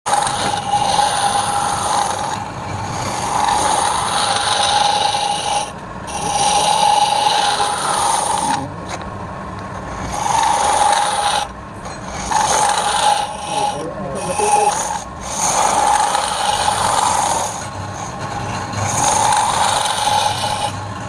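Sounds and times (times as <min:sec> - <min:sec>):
turning tool cutting spinning wood: 0:00.0 - 0:09.0, 0:09.8 - 0:21.0
lathe hum: 0:00.1 - 0:21.0.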